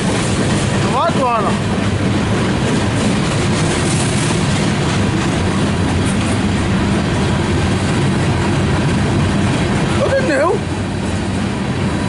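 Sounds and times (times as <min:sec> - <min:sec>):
steel train wheels on rail: 0:00.0 - 0:12.0.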